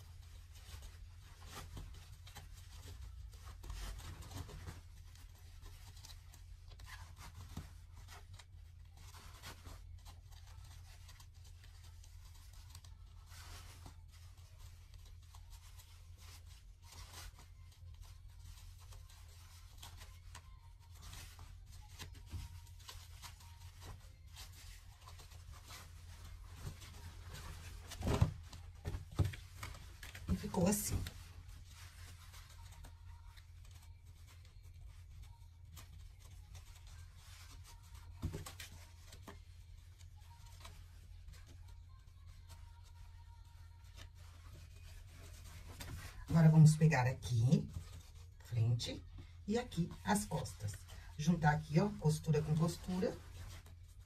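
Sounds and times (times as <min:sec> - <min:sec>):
fabric rustling and scraping: 0:00.0 - 0:54.0.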